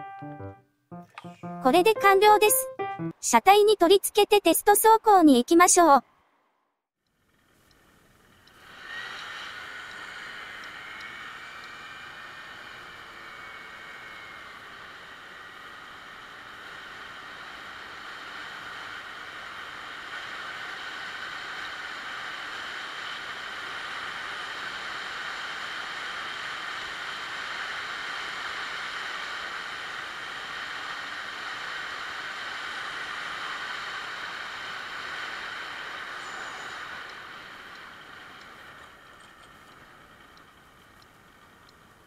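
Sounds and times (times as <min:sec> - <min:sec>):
road and wind noise: 0:07.3 - 0:42.0.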